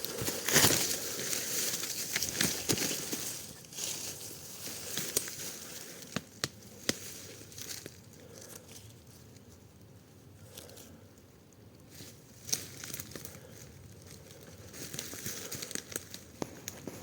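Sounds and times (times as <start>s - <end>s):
dry leaves rustling: 0.0s - 9.3s, 11.9s - 17.0s
twigs snapping: 0.0s - 9.5s, 12.4s - 17.0s.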